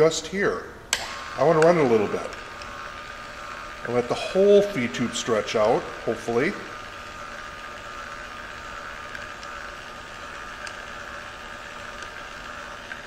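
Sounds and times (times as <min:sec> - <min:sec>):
pump motor whirring: 0:00.9 - 0:13.0.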